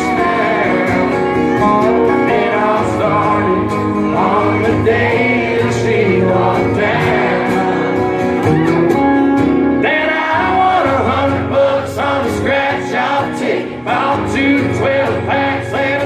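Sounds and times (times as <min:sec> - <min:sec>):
country band playing: 0:00.0 - 0:16.0
guitars: 0:00.0 - 0:16.0.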